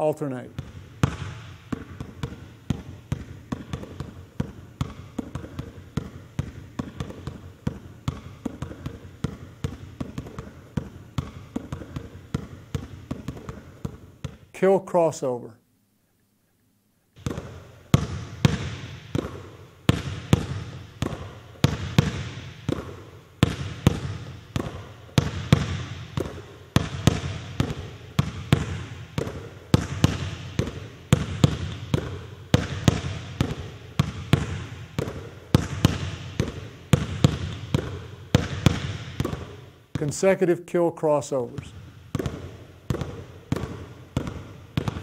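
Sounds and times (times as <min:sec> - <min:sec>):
basketball bouncing on wooden floor: 0:00.5 - 0:14.5, 0:17.2 - 0:40.4, 0:41.5 - 0:45.0.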